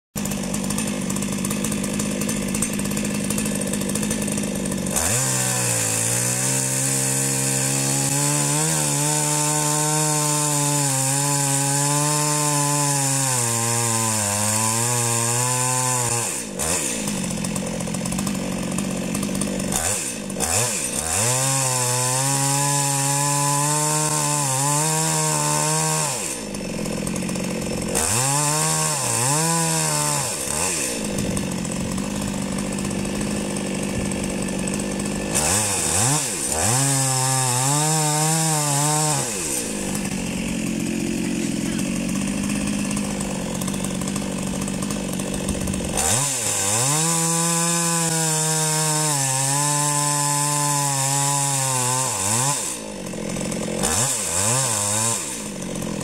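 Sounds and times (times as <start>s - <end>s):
chainsaw cutting wood: 0.2s - 56.0s.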